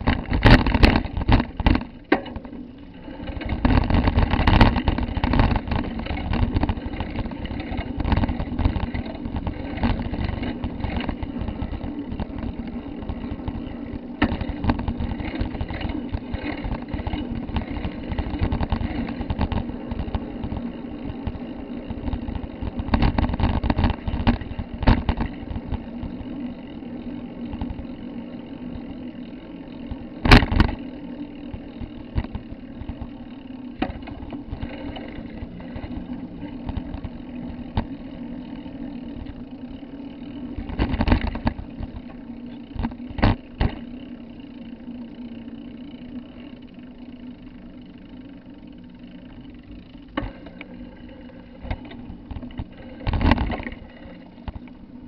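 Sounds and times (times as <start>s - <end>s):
vehicle rumble and rattle: 0.0s - 54.9s
steady low hum: 0.0s - 55.0s.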